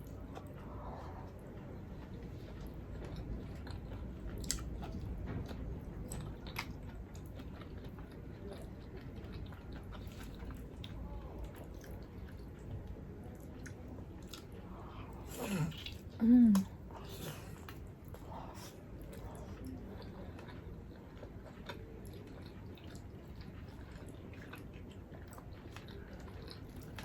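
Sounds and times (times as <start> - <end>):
wet chewing of food: 0.0 - 27.0.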